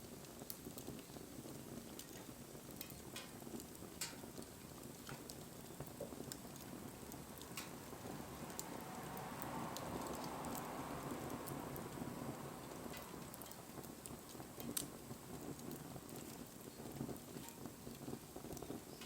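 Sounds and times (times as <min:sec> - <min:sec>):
bonfire crackling and popping: 0:00.0 - 0:19.0
flames hissing: 0:00.0 - 0:19.0.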